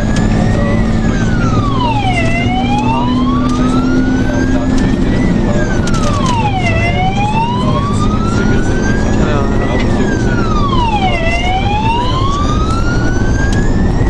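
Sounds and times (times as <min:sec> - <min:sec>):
diesel engine droning: 0:00.0 - 0:14.0
fire engine wail siren: 0:00.0 - 0:14.0.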